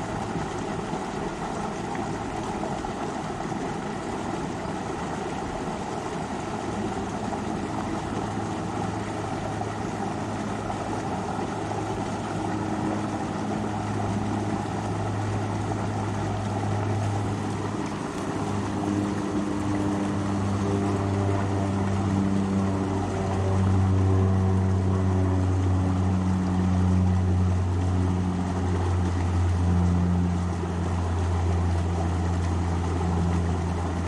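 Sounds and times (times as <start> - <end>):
low motor hum: 0.0 - 34.0
river water rushing over rocks: 0.0 - 34.0.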